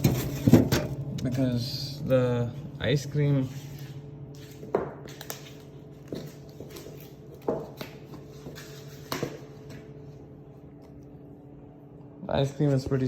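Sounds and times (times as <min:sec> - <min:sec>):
refrigerator hum: 0:00.0 - 0:13.0.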